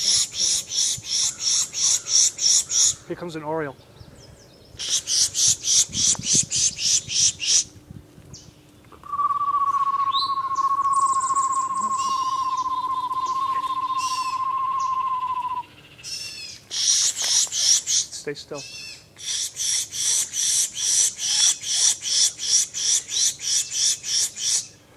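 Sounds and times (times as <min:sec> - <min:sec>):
bird trilling: 0:00.0 - 0:03.2, 0:04.2 - 0:07.7, 0:09.0 - 0:24.8
birds chirping: 0:00.0 - 0:24.8.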